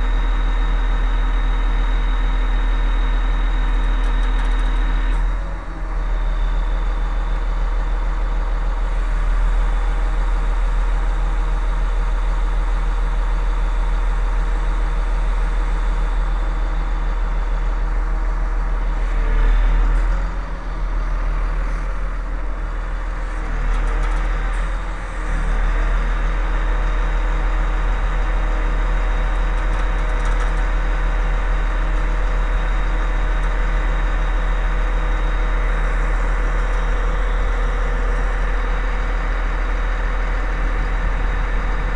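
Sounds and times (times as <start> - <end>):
truck diesel engine idling: 0.0 - 41.9.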